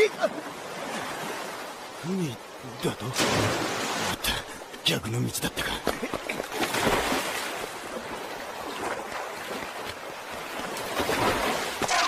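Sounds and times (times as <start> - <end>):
sea waves splashing: 0.0 - 12.0
wind: 0.0 - 12.0.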